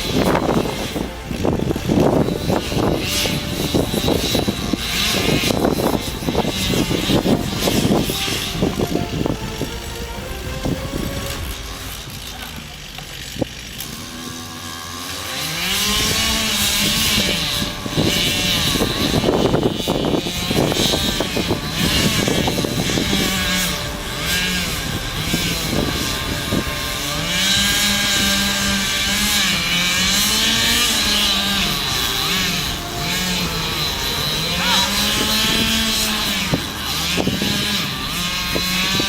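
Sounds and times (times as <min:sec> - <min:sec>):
chainsaw engine revving: 0:00.0 - 0:39.0.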